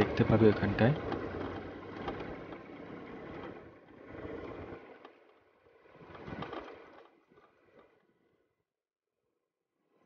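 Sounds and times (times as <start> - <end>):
motorcycle engine and road noise: 0.0 - 8.5.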